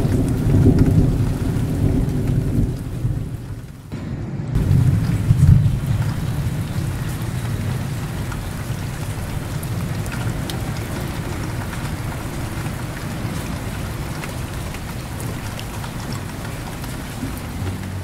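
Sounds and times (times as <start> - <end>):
heavy rain falling: 0.0 - 18.0
low thunder rumble: 0.0 - 18.0
rain drop ticks: 0.0 - 18.0.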